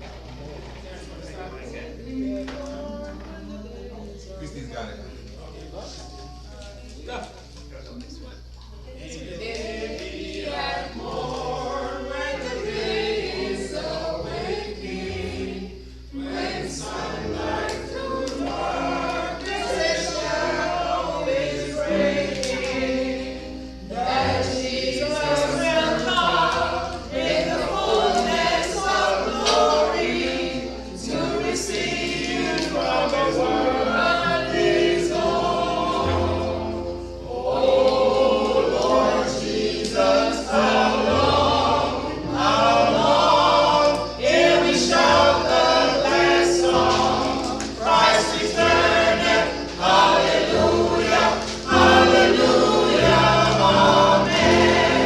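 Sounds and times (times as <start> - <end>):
group singing a hymn: 0.0 - 7.6, 8.3 - 55.0.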